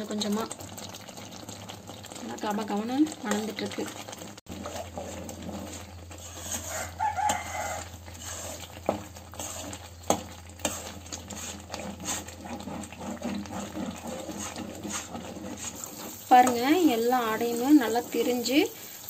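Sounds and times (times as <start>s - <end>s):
light sizzle: 0.0s - 19.0s
ladle stirring and scraping pan: 3.0s - 19.0s.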